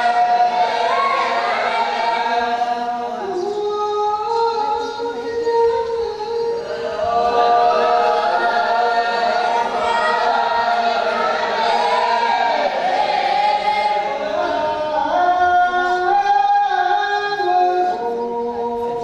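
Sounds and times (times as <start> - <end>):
group singing long notes: 0.0 - 19.0.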